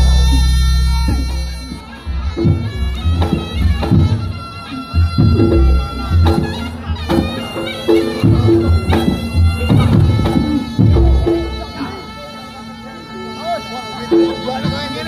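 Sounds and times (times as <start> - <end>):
struck percussion: 0.0 - 12.1
drum beats: 0.0 - 12.2
reed shawm melody: 0.0 - 15.0.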